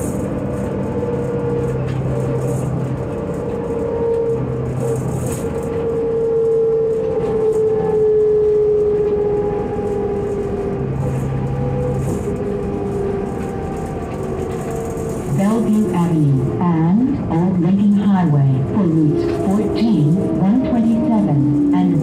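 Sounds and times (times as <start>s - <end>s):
bus engine drone and whine: 0.0s - 22.0s.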